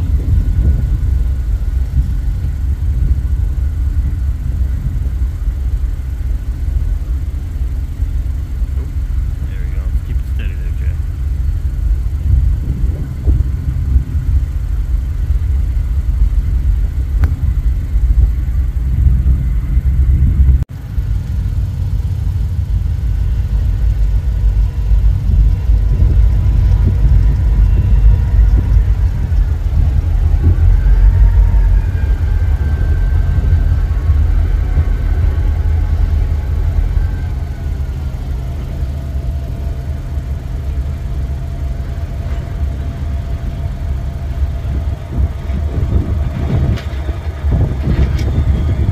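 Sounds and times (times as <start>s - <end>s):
faint high whining tones: 0.0s - 48.9s
locomotive engine rumble: 0.0s - 48.9s.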